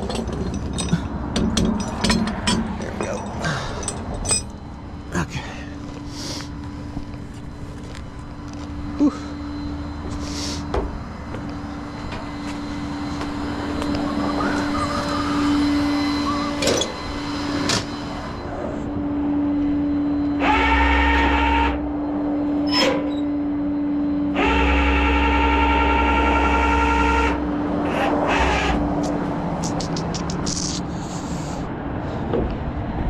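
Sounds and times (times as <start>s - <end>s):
hydraulics whining: 0.0s - 33.0s
tow truck engine running: 0.0s - 33.0s.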